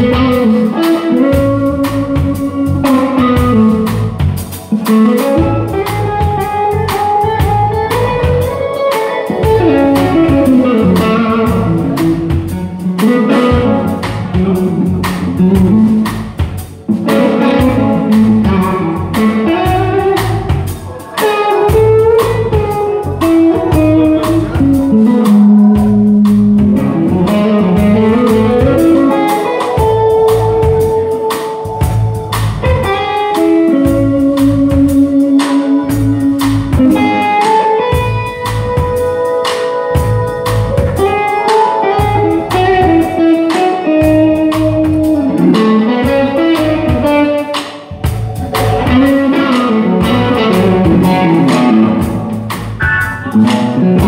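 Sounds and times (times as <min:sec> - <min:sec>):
blues band playing: 0:00.0 - 0:54.0
electric guitar lead melody: 0:00.0 - 0:54.0.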